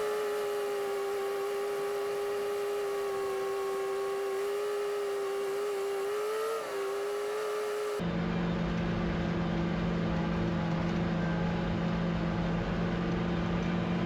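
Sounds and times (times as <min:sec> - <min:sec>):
high-pitched motor whine: 0:00.0 - 0:14.0.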